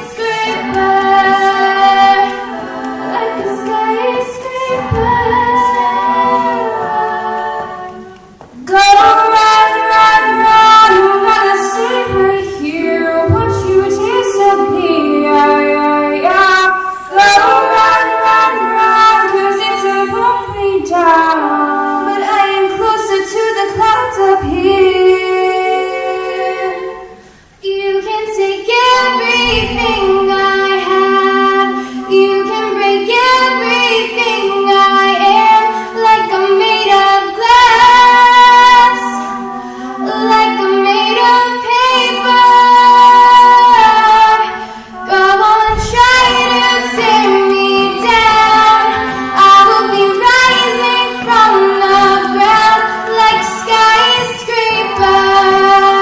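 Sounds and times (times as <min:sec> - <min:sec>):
girls singing a cappella: 0:00.0 - 0:56.0.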